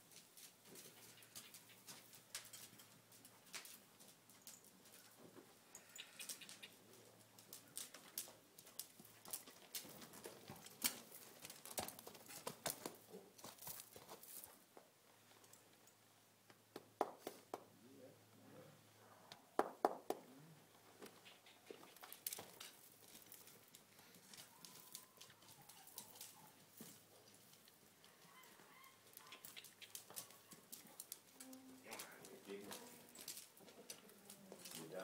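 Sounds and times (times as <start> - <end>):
hooves on soft dirt: 0.0 - 15.4, 20.6 - 35.0.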